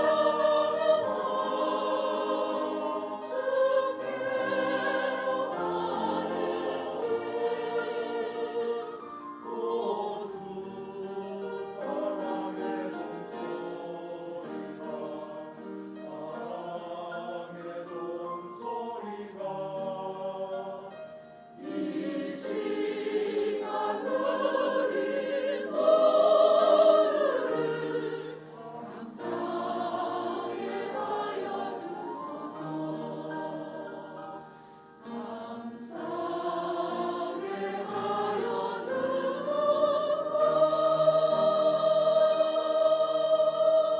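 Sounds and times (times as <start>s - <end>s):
church choir singing: 0.0s - 43.9s.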